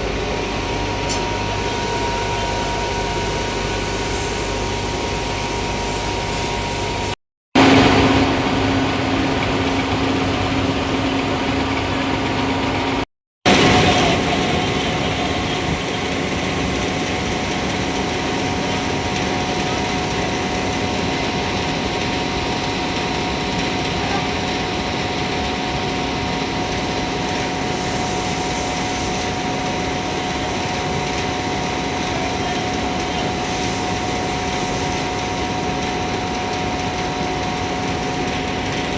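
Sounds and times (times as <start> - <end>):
boiler machinery rushing: 0.0 - 38.9.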